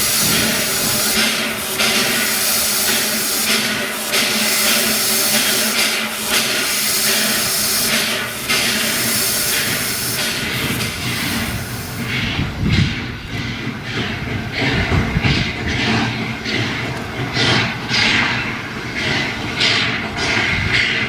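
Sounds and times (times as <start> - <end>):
steam hissing: 0.0 - 21.0
steam locomotive exhaust chuffs: 0.0 - 21.0.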